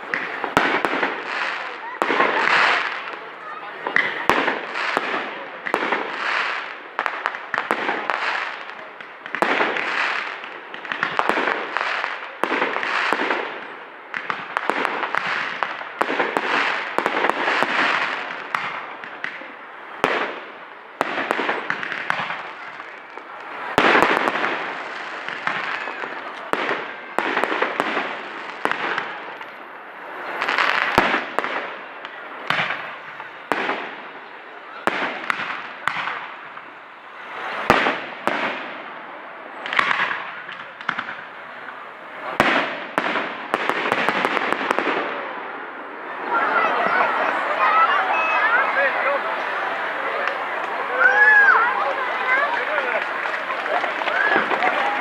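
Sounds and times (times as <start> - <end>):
fireworks banging and crackling: 0.0 - 55.0.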